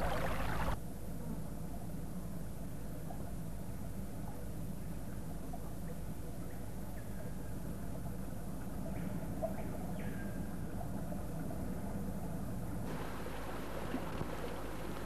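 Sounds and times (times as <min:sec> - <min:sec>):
film soundtrack hum and hiss: 0:00.0 - 0:15.0.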